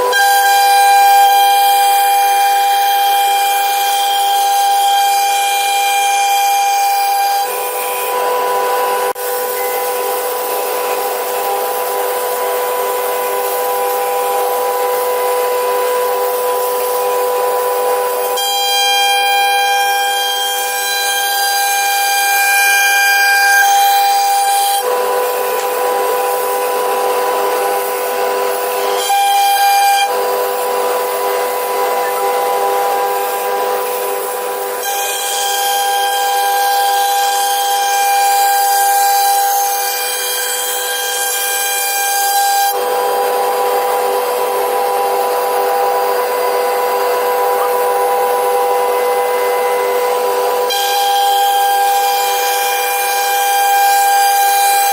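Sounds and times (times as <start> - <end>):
router spindle whine: 0.0 - 54.9.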